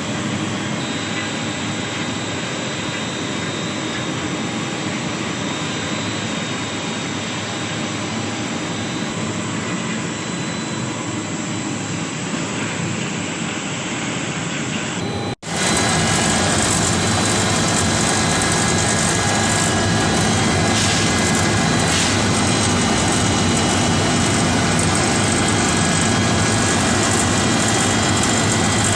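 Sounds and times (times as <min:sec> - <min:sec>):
washing machine mechanical noise: 0:00.0 - 0:28.9.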